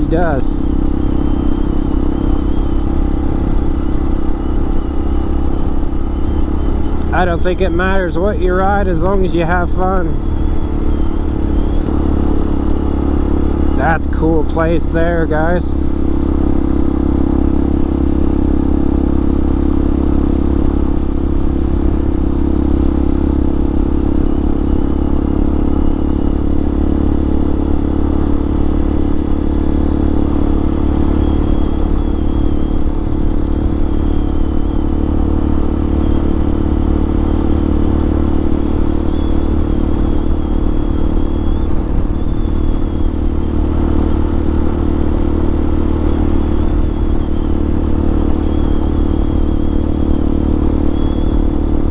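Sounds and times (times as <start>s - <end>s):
faint wavering high whine: 0.0s - 51.9s
motorcycle engine running: 0.0s - 51.9s.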